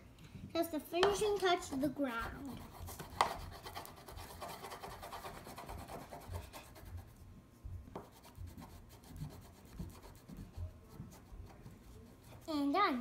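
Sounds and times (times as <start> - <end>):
crayon scribbling on paper: 1.1 - 7.2, 8.0 - 12.7.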